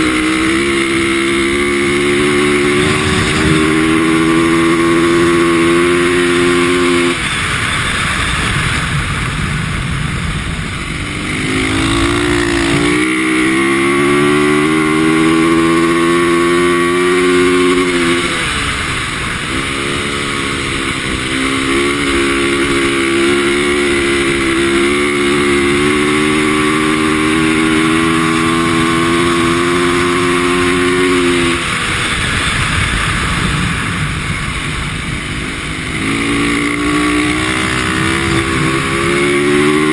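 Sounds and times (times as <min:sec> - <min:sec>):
dirt bike engine revving high: 0:00.0 - 0:08.2, 0:10.5 - 0:39.9.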